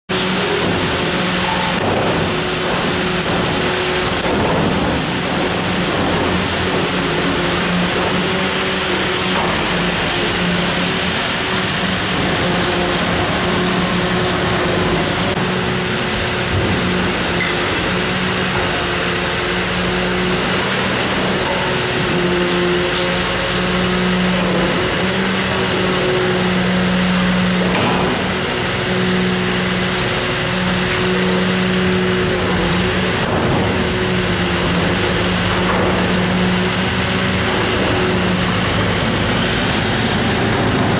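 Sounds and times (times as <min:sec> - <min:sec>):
refuse truck engine and hydraulics: 0:00.1 - 0:40.9.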